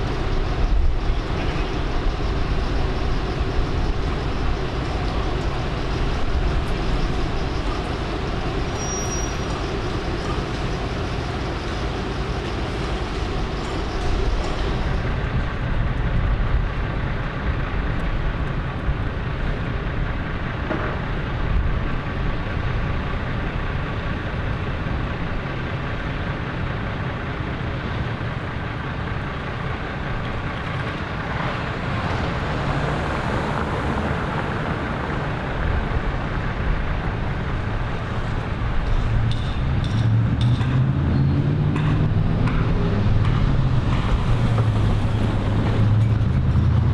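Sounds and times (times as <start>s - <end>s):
street traffic rumble: 0.0s - 46.9s.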